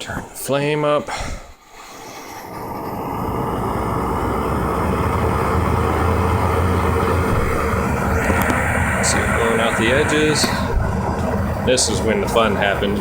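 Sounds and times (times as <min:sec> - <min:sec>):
gas torch flame rushing: 0:01.5 - 0:13.0.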